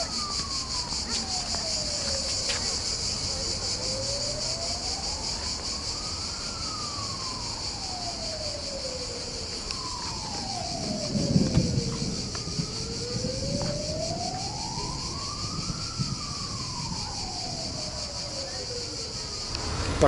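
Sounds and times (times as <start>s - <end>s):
siren wailing: 0.0s - 19.6s
high pulsing insect chorus: 0.0s - 20.0s.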